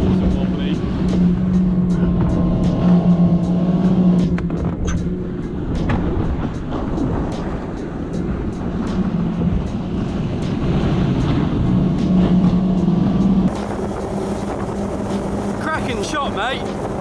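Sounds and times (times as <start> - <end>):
motorboat engine drone: 0.0 - 17.0
wind and water rushing: 0.0 - 17.0.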